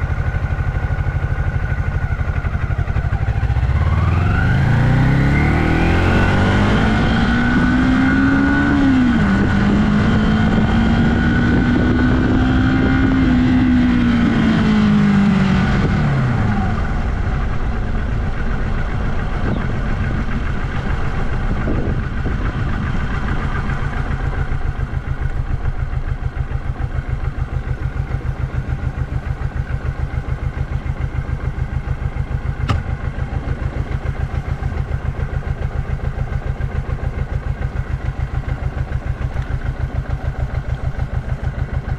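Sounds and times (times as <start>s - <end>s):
motorcycle engine idling: 0.0s - 9.8s, 11.5s - 41.9s
motorcycle engine revving: 0.0s - 41.9s.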